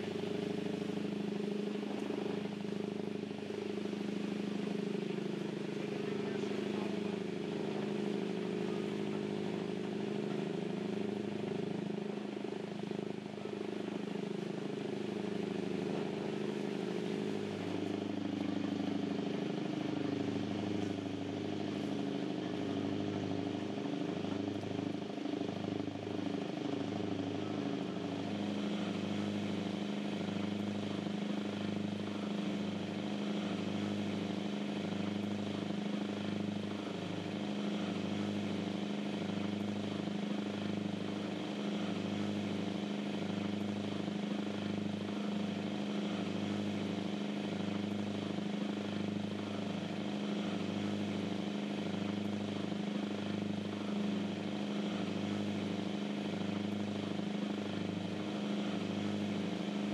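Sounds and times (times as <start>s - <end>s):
boat diesel engines droning: 0.0s - 59.9s.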